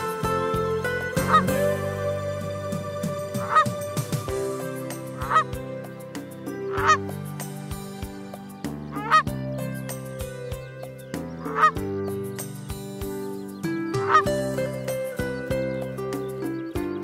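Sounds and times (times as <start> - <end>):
bird calling: 0.0 - 7.9, 8.6 - 17.0
background music with held notes: 0.0 - 17.0.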